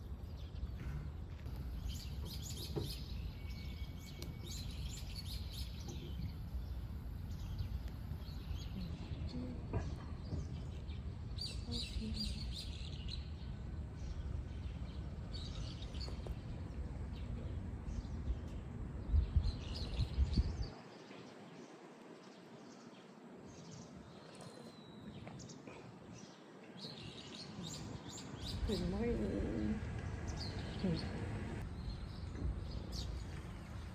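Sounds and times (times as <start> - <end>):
low rumbling background noise: 0.0 - 24.2, 24.8 - 33.9
small birds chirping: 0.0 - 33.9.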